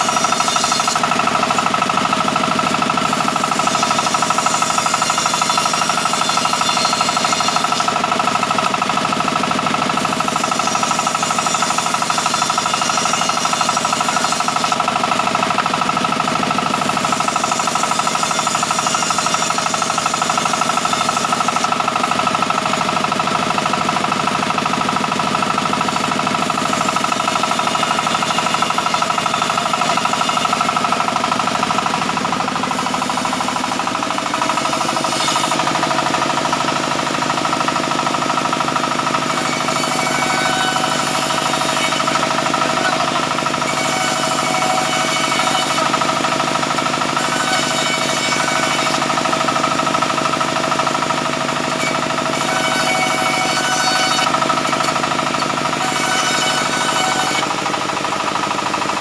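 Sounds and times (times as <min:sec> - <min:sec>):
bandsaw machinery running: 0:00.0 - 0:59.0.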